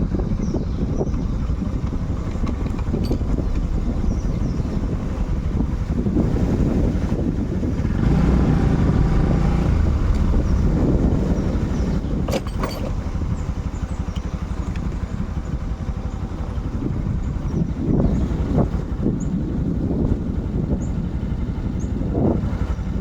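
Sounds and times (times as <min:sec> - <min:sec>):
motorcycle engine running: 0:00.0 - 0:23.0
wind on microphone: 0:00.0 - 0:23.0.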